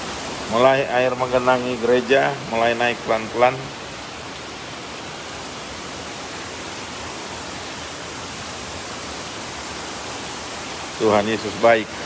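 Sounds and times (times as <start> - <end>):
flowing floodwater: 0.0 - 12.0
heavy rain: 0.0 - 12.0.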